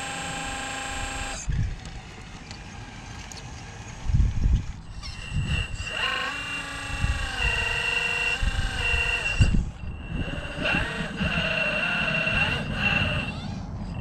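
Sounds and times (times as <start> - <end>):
electric motor whining: 0.0 - 14.0
wind buffeting microphone: 1.0 - 2.3, 3.8 - 14.0.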